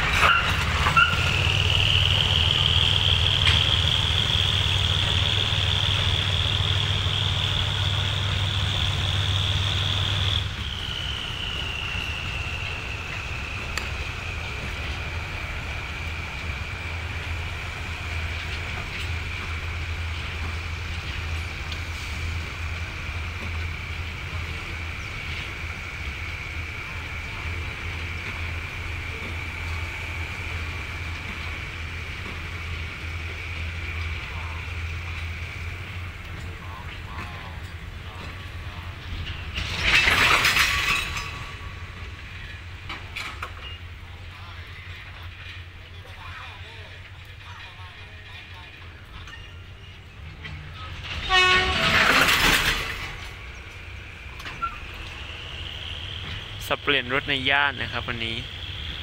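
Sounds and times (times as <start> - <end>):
diesel locomotive rumbling: 0.0 - 59.0
railway cars metallic clatter: 0.0 - 59.0.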